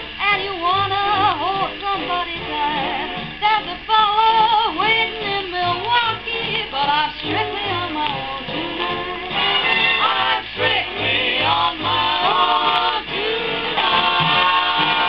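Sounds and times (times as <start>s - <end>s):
woman singing with vibrato: 0.1s - 15.0s.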